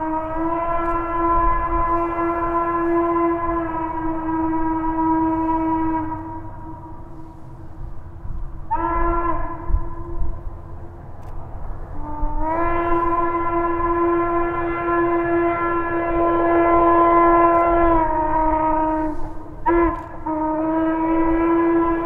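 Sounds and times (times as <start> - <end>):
steam locomotive whistle: 0.0 - 7.9, 8.7 - 10.5, 11.9 - 22.0.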